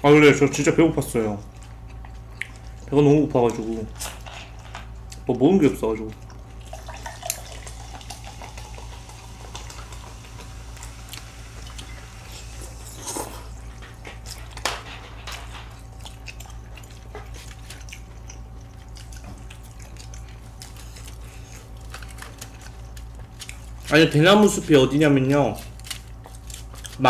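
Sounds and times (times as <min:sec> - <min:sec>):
steady low hum: 0:00.0 - 0:27.0
chewing: 0:01.0 - 0:05.3, 0:06.1 - 0:14.6, 0:15.3 - 0:27.0.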